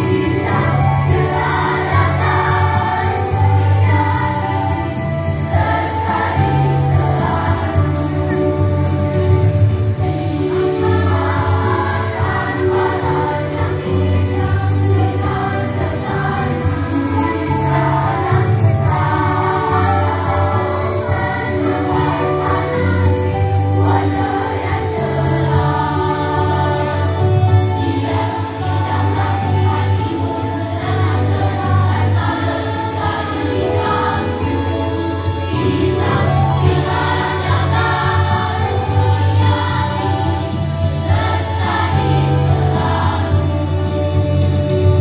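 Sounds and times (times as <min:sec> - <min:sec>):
children's choir singing: 0:00.0 - 0:45.0.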